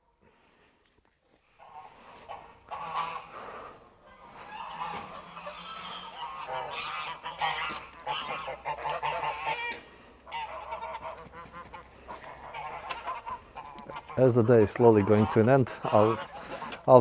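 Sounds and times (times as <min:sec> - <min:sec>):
poultry calling: 0:01.5 - 0:17.0.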